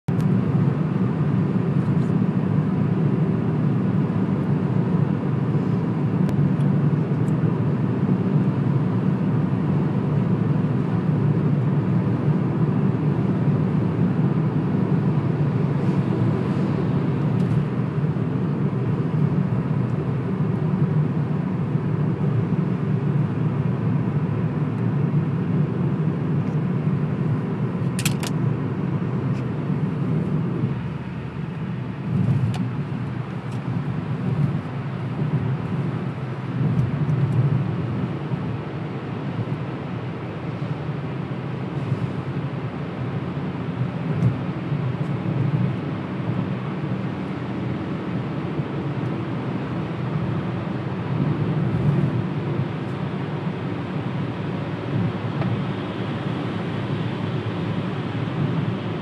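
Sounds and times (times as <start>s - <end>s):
car road and engine rumble: 0.1s - 59.0s.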